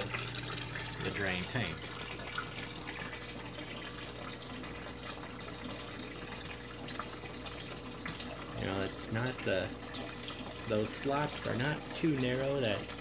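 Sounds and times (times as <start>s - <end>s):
water gushing into tank: 0.0s - 13.0s.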